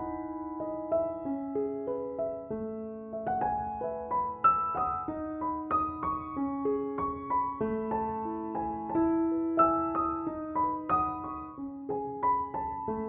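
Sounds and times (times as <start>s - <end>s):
gentle solo piano music: 0.0s - 13.0s.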